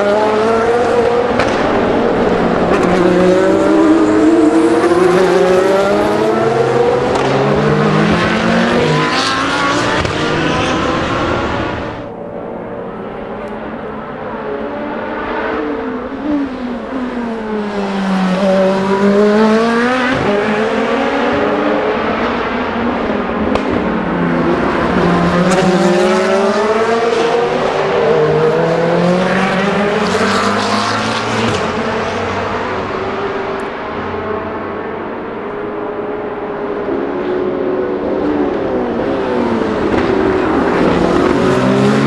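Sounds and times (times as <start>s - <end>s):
race car engines accelerating: 0.0s - 42.0s.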